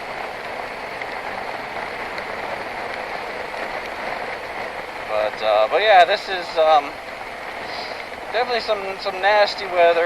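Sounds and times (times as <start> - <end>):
rain and wind rushing at helmet: 0.0 - 10.0.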